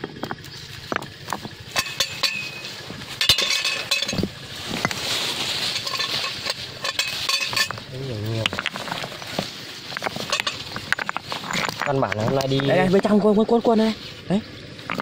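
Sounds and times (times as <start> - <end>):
metal pipe knocking against stones: 0.0 - 5.0, 5.8 - 12.8, 14.8 - 15.0
rocks clattering together: 0.0 - 13.0, 14.7 - 15.0.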